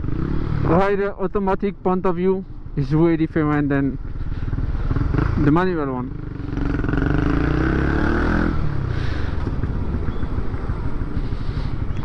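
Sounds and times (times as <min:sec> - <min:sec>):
motorcycle engine accelerating: 0:00.0 - 0:01.1, 0:03.4 - 0:12.0.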